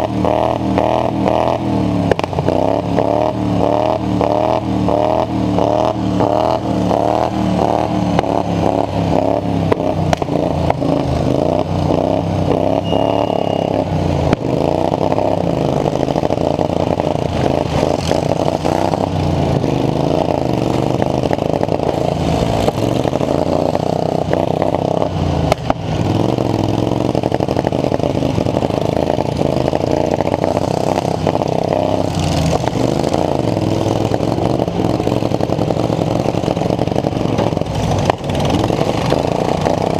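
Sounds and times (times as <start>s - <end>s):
lawn mower engine revving: 0.0s - 39.9s.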